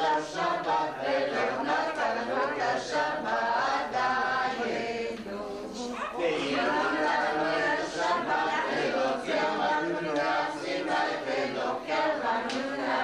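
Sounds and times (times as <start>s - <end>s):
group singing unaccompanied: 0.0s - 13.0s.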